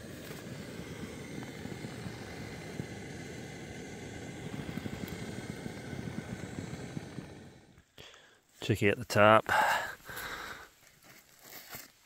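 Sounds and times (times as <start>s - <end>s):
gas camp stove burning: 0.0s - 8.8s, 9.4s - 11.2s.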